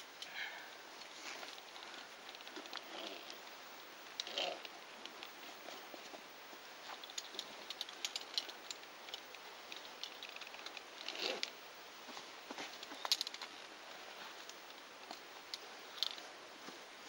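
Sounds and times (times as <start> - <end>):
metal rope gear clinking: 0.0 - 11.6, 12.2 - 16.5
rustling of harness and rope: 0.0 - 17.0.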